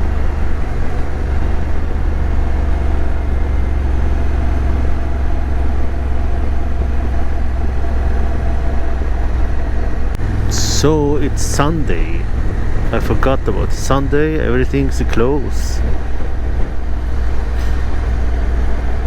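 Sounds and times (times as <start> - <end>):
wind and road rush: 0.0 - 19.0.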